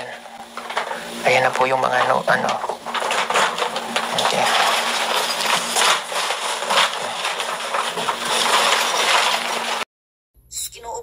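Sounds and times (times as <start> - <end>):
bags rustling and crinkling: 0.0 - 9.9.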